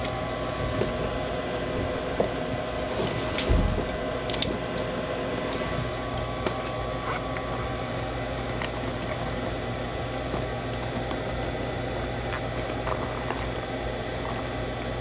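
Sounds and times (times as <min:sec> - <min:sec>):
motor humming and whining: 0:00.0 - 0:15.0.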